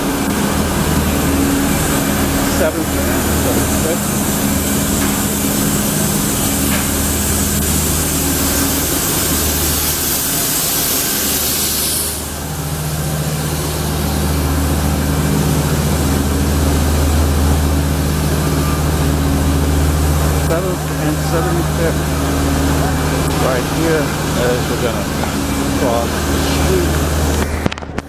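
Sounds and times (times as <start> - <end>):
loud spraying hiss: 0.0 - 27.7
heavy engine running: 0.0 - 28.0.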